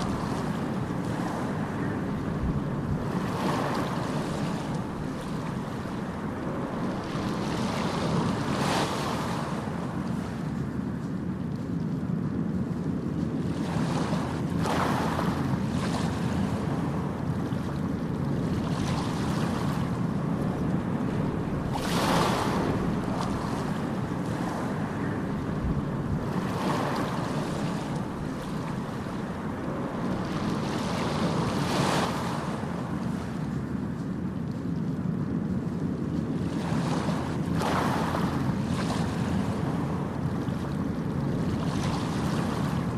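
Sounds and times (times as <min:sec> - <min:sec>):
ocean waves breaking: 0:00.0 - 0:42.9.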